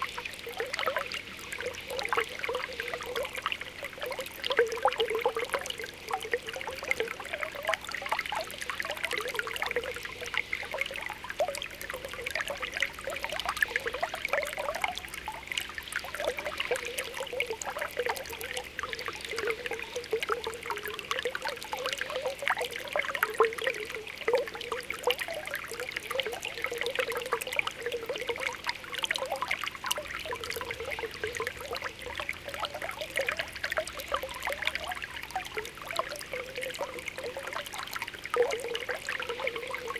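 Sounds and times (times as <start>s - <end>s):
water bubbles popping and gurgling: 0.0s - 39.9s
water trickling: 0.0s - 39.9s.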